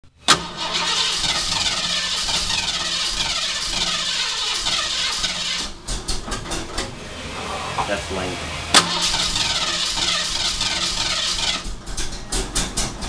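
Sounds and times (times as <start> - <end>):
car engine starting with bang: 0.2 - 13.0.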